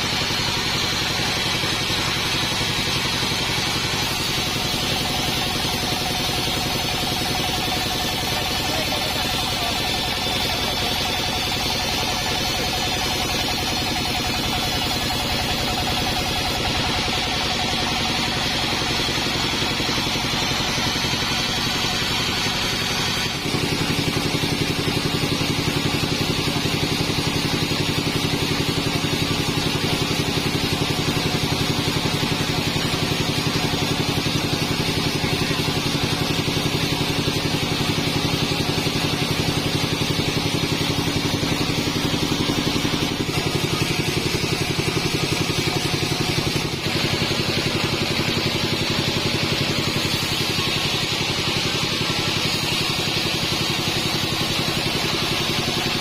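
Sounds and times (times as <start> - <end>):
band sawmill drone: 0.0 - 56.0
high machine hiss: 0.0 - 56.0.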